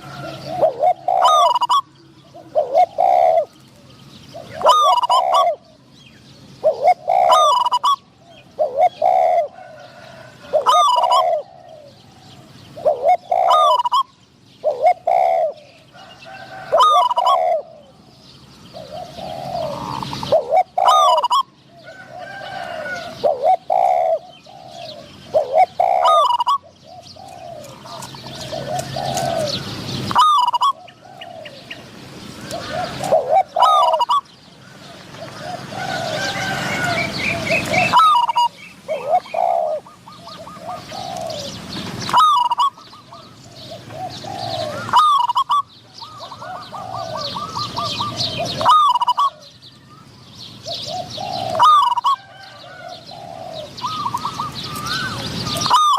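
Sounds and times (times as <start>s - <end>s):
doves cooing: 0.0s - 55.9s.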